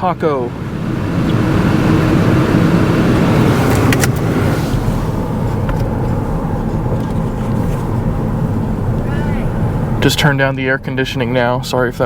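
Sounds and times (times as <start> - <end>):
air conditioning blower hissing: 0.0 - 12.0
road rumble: 0.0 - 12.0.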